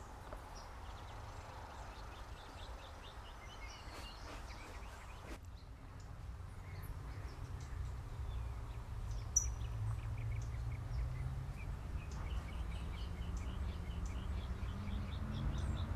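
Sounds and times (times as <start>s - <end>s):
bird chirps: 0.0s - 15.9s.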